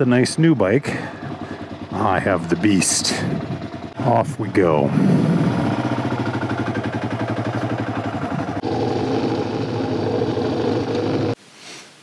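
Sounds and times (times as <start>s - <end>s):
motorcycle engine at low revs: 0.0s - 11.4s.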